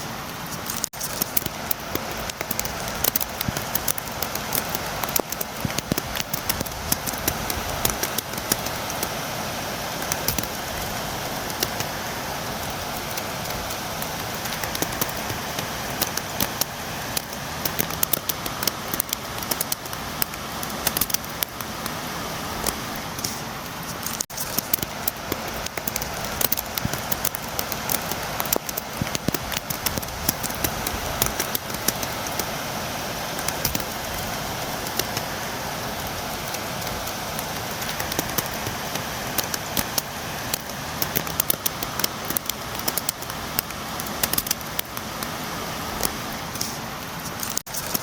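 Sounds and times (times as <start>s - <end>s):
rain falling: 0.0s - 48.0s
raindrops tapping on a window: 0.8s - 32.6s, 33.3s - 46.8s.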